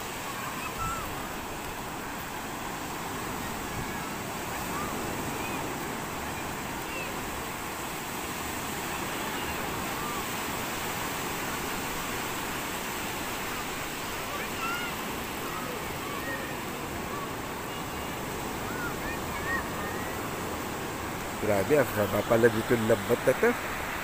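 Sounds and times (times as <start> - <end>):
surf breaking on a beach: 0.0 - 24.0.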